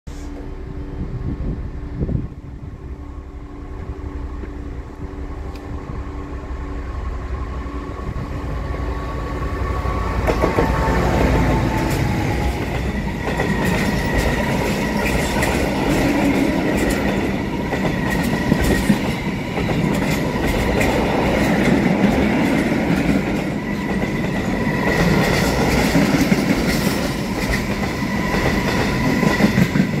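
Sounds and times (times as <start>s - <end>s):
locomotive engine drone: 0.1s - 30.0s.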